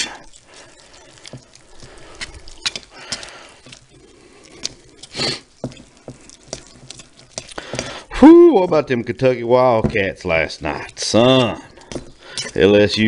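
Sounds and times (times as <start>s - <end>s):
spoon stirring thick batter: 0.0s - 13.0s.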